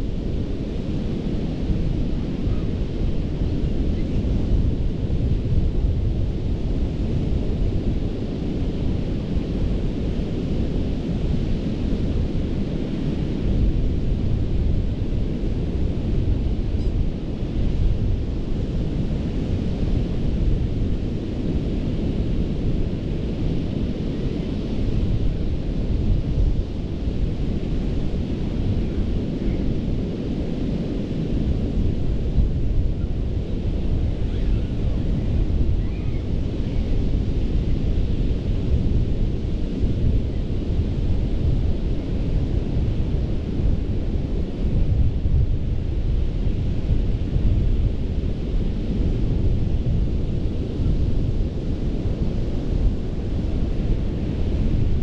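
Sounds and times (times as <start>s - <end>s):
wind buffeting the microphone: 0.0s - 55.0s.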